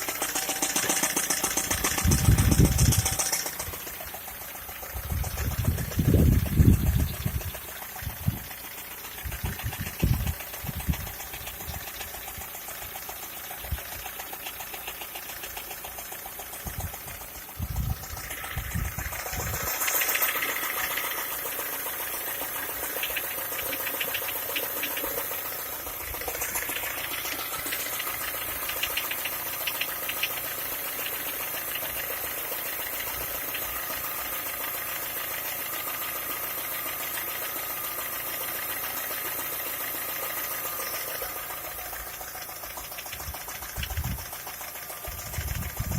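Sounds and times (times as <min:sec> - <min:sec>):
car engine idling with ticking: 0:00.0 - 0:45.9.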